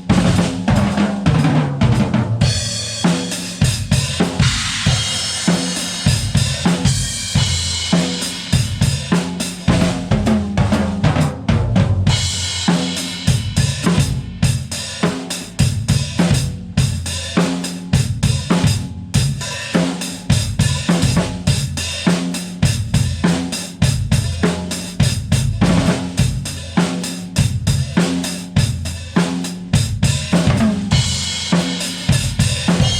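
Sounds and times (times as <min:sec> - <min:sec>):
drum kit playing: 0:00.0 - 0:32.9.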